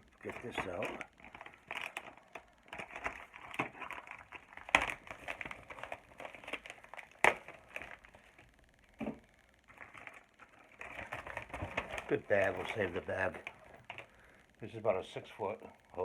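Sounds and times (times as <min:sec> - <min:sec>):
plastic bag crinkling: 0:00.0 - 0:14.4.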